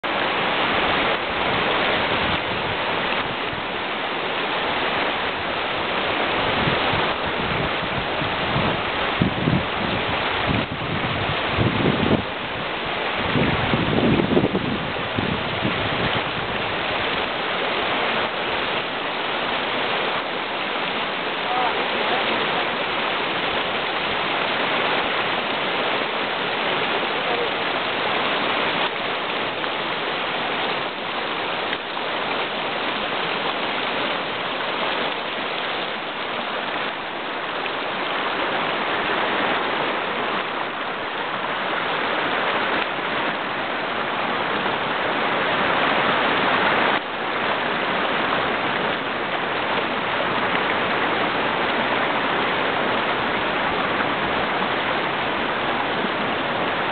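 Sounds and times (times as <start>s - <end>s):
river water rushing over rocks: 0.0s - 56.9s.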